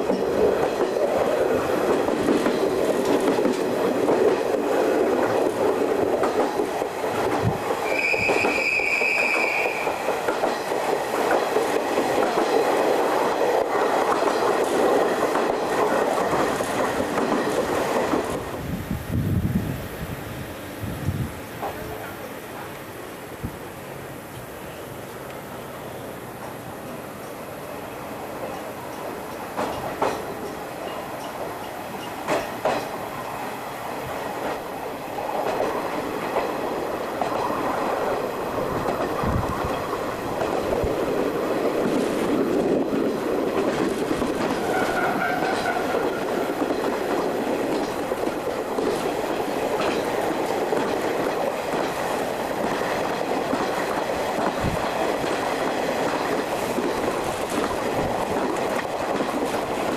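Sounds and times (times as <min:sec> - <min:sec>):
train wheels clacking over rail joints: 0:00.0 - 0:18.6, 0:28.4 - 0:59.9.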